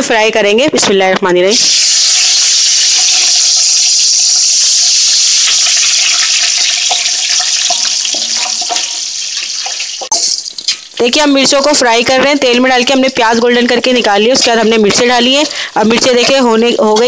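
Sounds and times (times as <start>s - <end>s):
chillies sizzling in hot oil: 1.5s - 17.0s.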